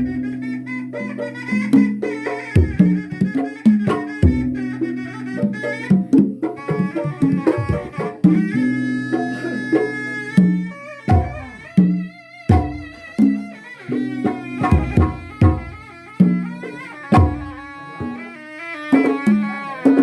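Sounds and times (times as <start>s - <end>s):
hand drums playing: 0.0s - 20.0s
wavering melody line: 0.0s - 20.0s.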